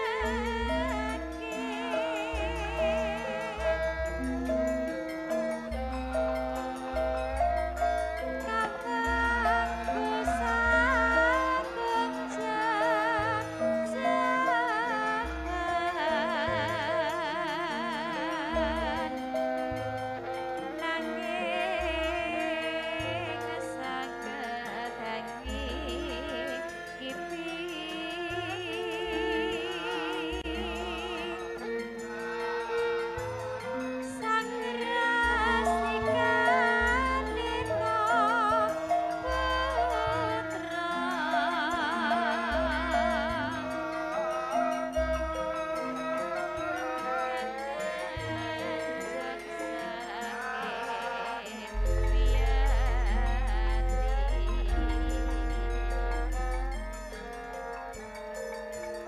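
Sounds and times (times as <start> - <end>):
woman singing with vibrato: 0.0 - 57.9
gamelan music: 0.0 - 59.0
light steady percussion: 0.0 - 59.0.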